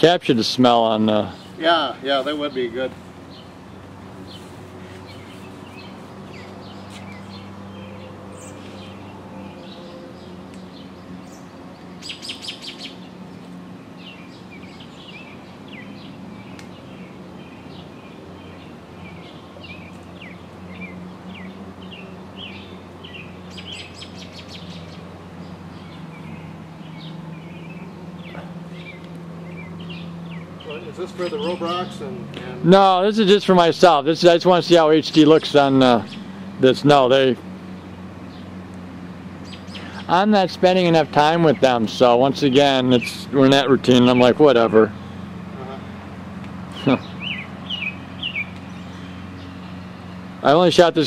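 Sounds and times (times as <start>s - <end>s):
steady low hum: 0.0s - 50.5s
birds chirping and calling: 0.0s - 51.0s.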